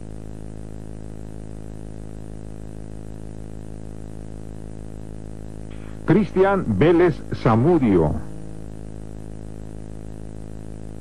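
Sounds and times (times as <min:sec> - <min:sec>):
low electrical hum: 0:00.0 - 0:11.0
tape hiss: 0:00.0 - 0:11.0.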